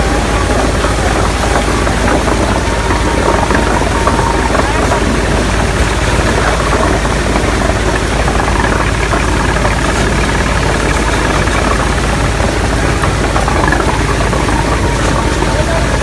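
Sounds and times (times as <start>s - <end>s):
machine engine pulsing: 0.0s - 16.0s.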